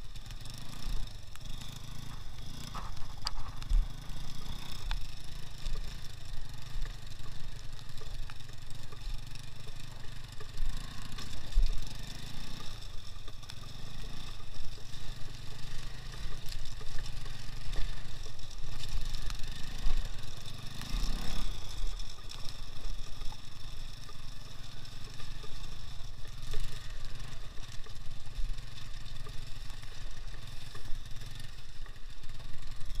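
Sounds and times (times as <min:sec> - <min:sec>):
off-road motorcycle engine running: 0:00.0 - 0:33.0.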